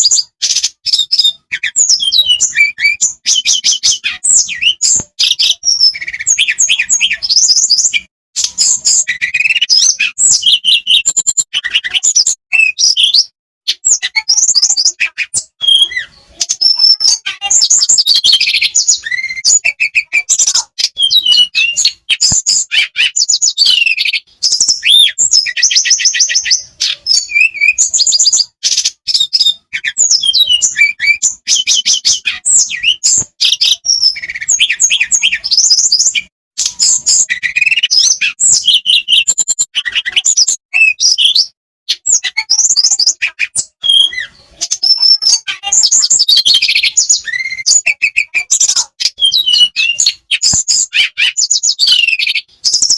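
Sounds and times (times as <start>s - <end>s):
bird singing whistled phrases: 0.0s - 52.9s.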